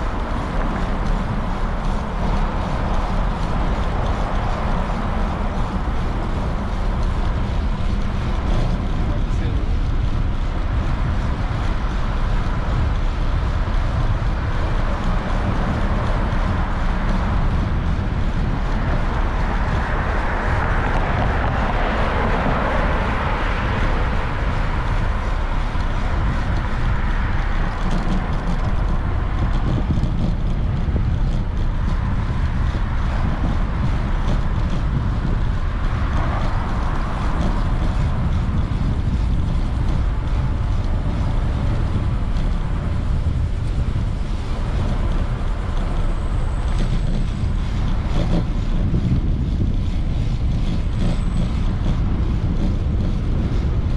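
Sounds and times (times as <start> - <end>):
cars passing: 0.0 - 53.9
wind rumble on microphone: 0.0 - 53.9.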